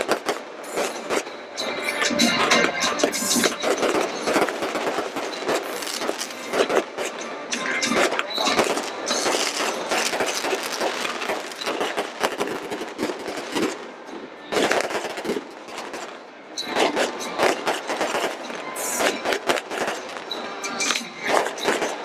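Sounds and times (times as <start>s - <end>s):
fireworks bangs: 0.0s - 22.0s
fireworks crackling and popping: 0.0s - 22.0s.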